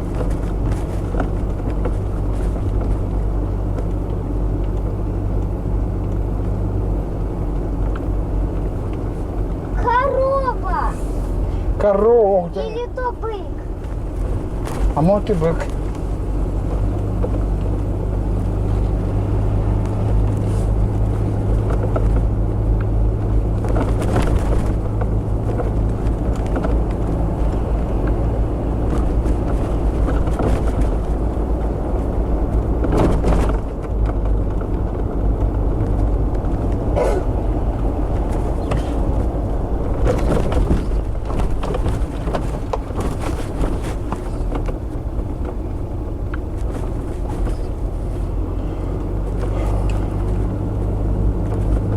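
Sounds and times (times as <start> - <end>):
car engine and road hum: 0.0 - 51.9
road knocks: 0.0 - 51.9.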